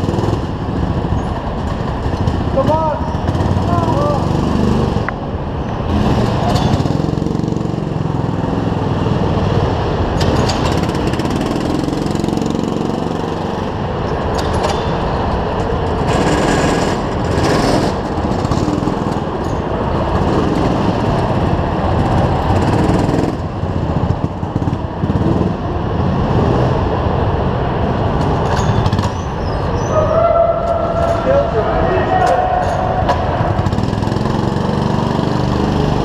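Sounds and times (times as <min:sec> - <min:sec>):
go-kart engines idling: 0:00.0 - 0:36.0.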